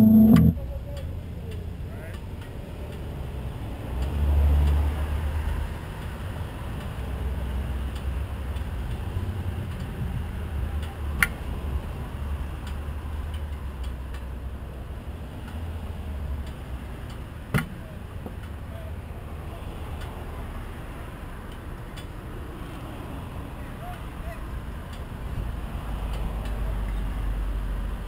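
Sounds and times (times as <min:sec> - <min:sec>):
cars passing: 0:02.7 - 0:28.0.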